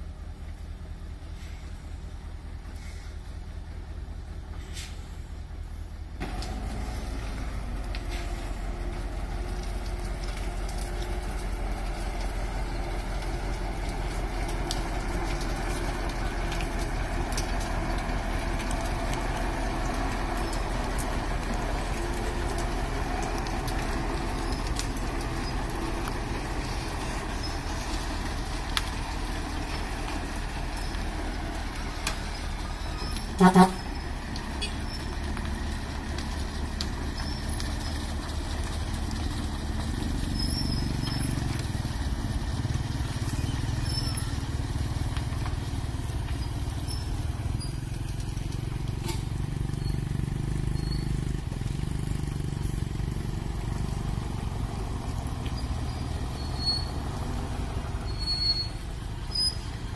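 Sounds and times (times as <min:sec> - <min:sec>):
truck diesel engine under load: 0:00.0 - 0:59.9.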